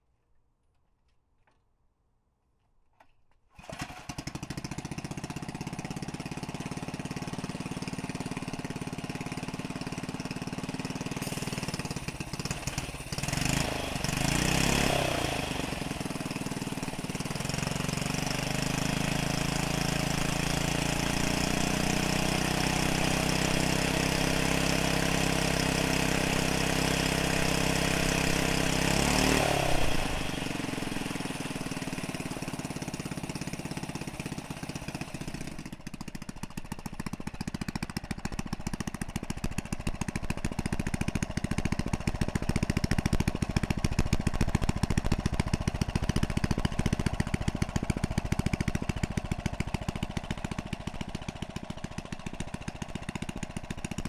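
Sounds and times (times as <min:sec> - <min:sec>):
small engine idling and revving: 0:03.5 - 0:54.0.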